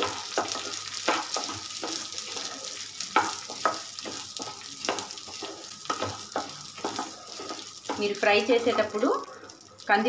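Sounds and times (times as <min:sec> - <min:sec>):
spatula scraping pan: 0:00.0 - 0:09.5
lentils sizzling and rattling: 0:00.0 - 0:10.0.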